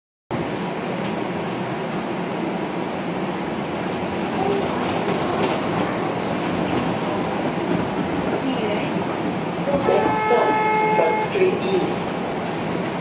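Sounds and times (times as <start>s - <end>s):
streetcar rail noise: 0.3s - 13.0s.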